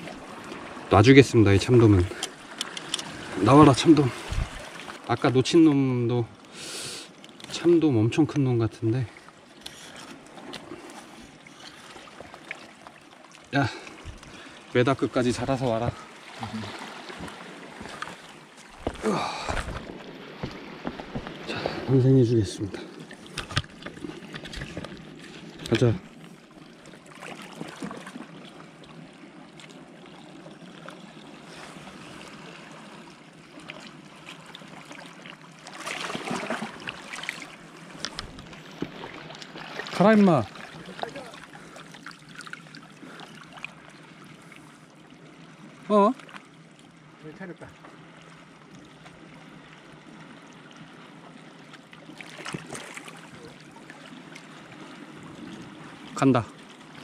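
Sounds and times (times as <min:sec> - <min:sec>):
water lapping among rocks: 0:00.0 - 0:05.5, 0:08.9 - 0:47.2, 0:47.9 - 0:57.0
water splashing: 0:00.0 - 0:05.8, 0:07.2 - 0:44.8, 0:45.4 - 0:57.0.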